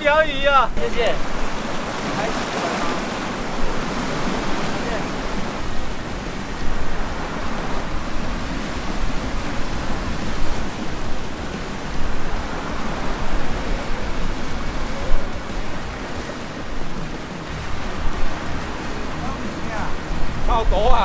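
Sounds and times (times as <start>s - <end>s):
sea surf: 0.0s - 21.0s
wind on the shore: 0.0s - 21.0s.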